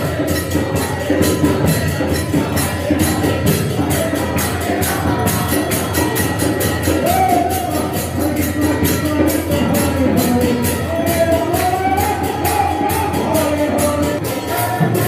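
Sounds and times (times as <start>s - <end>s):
hand cymbals struck rhythmically: 0.0s - 15.0s
voices chanting together: 0.0s - 15.0s.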